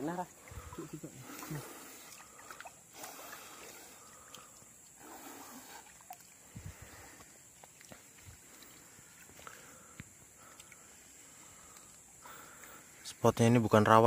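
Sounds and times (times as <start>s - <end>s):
water sloshing and splashing: 0.0s - 12.5s.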